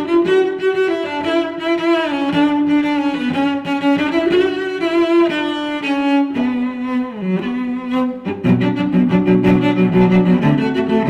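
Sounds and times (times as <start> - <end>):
slow bowed string melody: 0.0 - 11.0.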